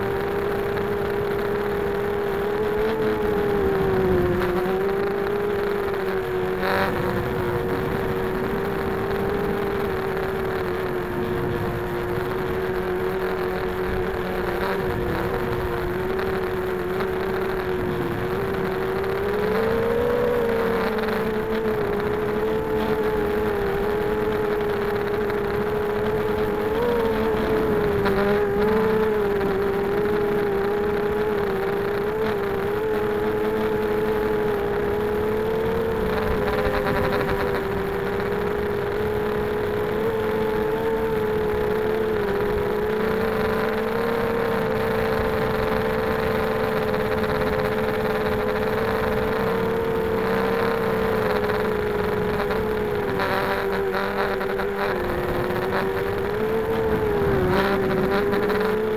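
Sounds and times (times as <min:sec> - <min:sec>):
quadcopter motors buzzing whine: 0:00.0 - 0:58.9.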